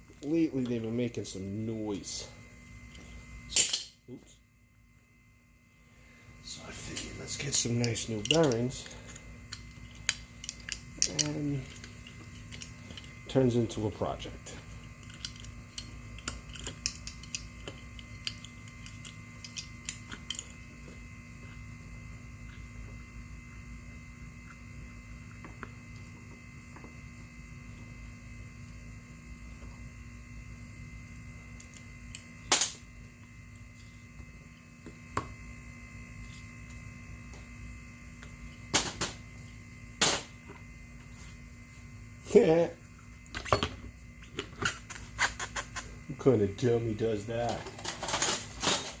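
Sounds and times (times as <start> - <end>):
electrical hum: 0.0 - 49.0.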